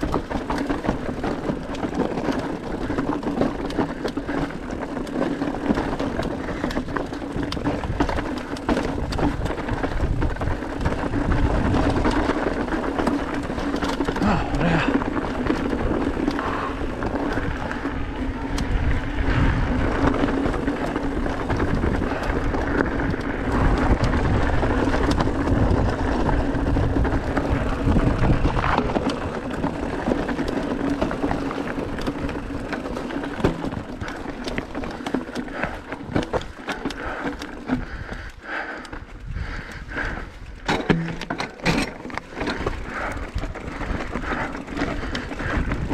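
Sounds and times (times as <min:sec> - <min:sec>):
bike rattling: 0:00.0 - 0:45.9
continuous rushing noise: 0:00.0 - 0:45.9
tyres crunching over stones: 0:00.0 - 0:45.9.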